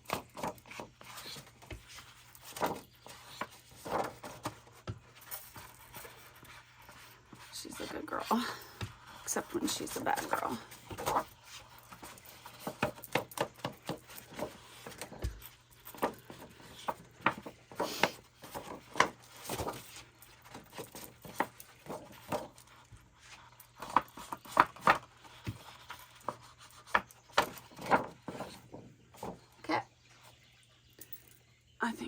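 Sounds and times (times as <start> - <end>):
paper rustling and shuffling: 0.0 - 30.6.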